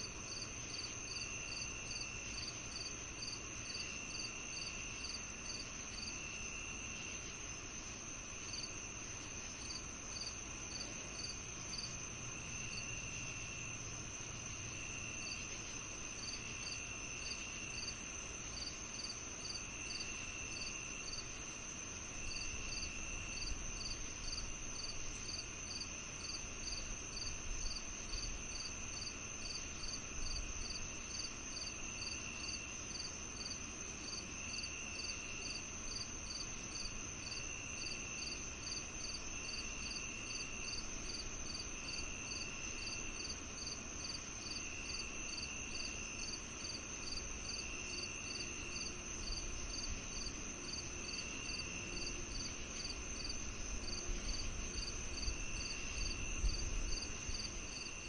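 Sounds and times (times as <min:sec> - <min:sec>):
high insect trill: 0:00.0 - 0:58.0
low insect buzz: 0:00.0 - 0:58.0
rapid cricket chirps: 0:00.0 - 0:58.0.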